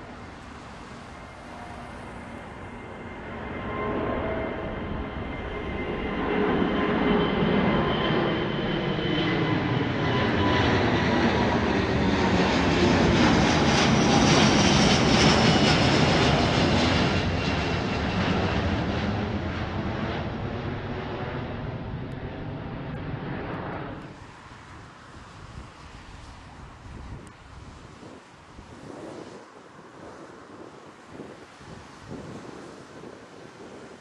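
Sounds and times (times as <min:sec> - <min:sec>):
jet airliner passing overhead: 0:00.0 - 0:34.0.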